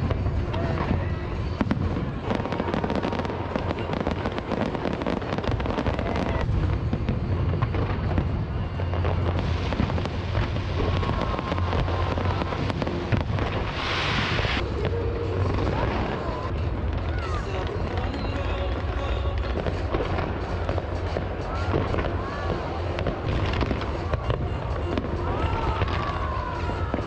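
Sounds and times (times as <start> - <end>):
fireworks crackling pops: 0.0 - 27.0
low rumble of firework bursts: 0.0 - 27.0.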